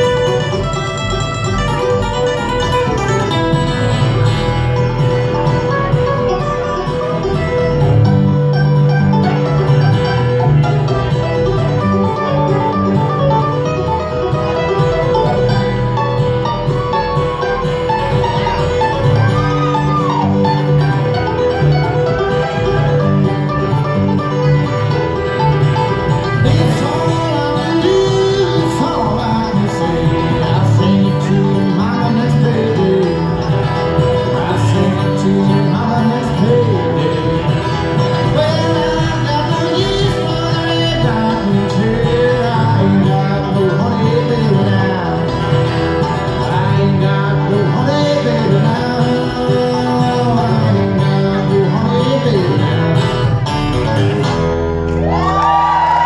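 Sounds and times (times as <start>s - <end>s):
acoustic guitar strumming: 0.0s - 56.0s
banjo picking: 0.0s - 56.0s
upright bass walking line: 0.0s - 56.0s.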